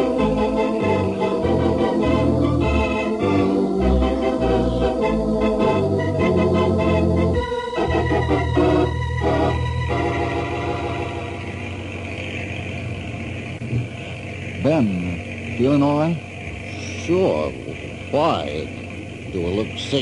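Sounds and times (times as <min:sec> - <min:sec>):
low engine drone: 0:00.0 - 0:20.0
organ chords: 0:00.0 - 0:20.0.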